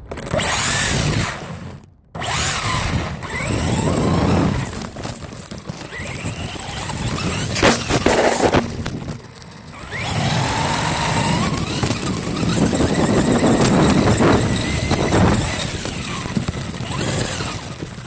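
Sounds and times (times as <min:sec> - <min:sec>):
electric motor whining: 0:00.2 - 0:18.0
wind and grass rushing: 0:02.3 - 0:09.3, 0:09.9 - 0:18.0.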